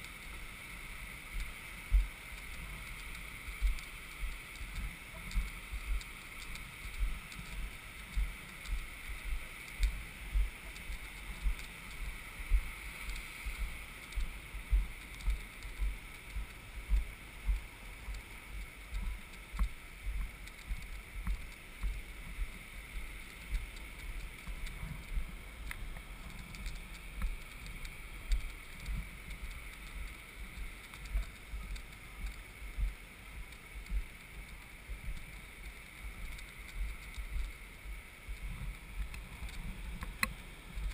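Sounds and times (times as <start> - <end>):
wind hiss: 0.0 - 40.9.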